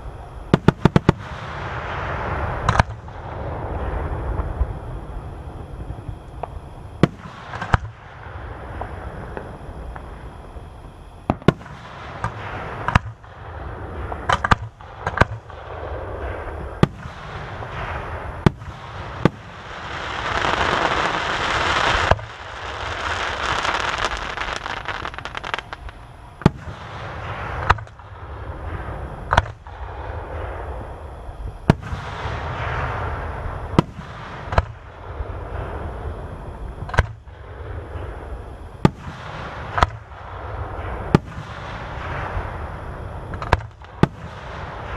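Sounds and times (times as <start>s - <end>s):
fireworks booming: 0.0s - 44.9s
fireworks crackling and hiss: 0.0s - 44.9s.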